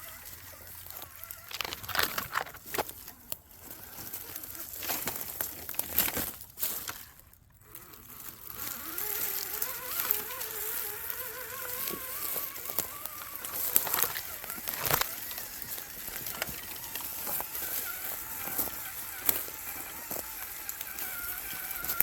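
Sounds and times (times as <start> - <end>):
rustling: 0.0 - 22.0
small electric motor whining: 0.0 - 22.0.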